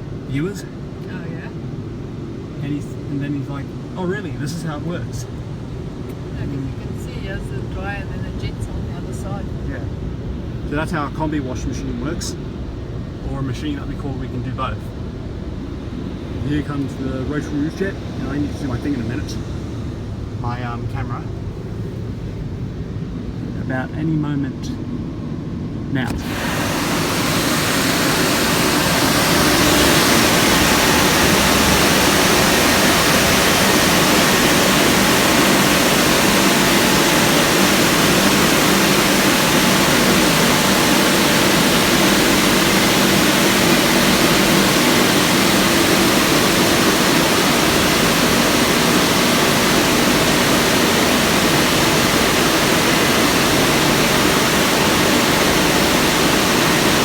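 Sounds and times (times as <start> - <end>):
car wash blowers roaring: 2.3 - 23.6, 25.9 - 57.0.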